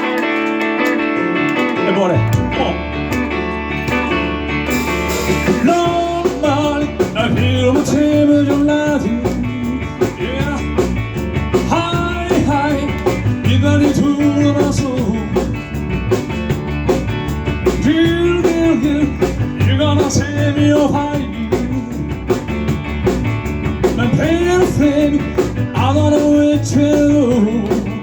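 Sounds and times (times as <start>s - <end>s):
lead guitar bending notes: 0.0s - 28.0s
live rock band playing: 0.0s - 28.0s.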